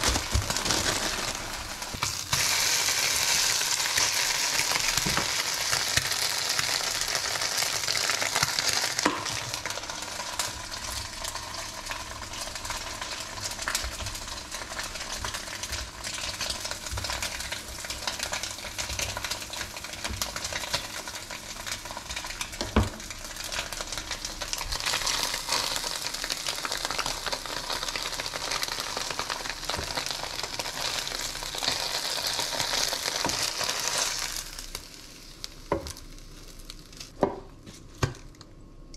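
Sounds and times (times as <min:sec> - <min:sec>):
food sizzling in a pan: 0:00.0 - 0:37.1.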